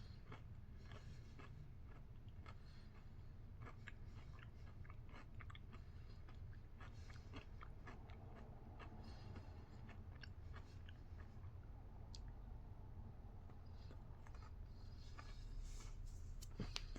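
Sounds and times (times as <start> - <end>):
chewing crunchy chocolate: 0.0 - 12.4, 13.2 - 16.9.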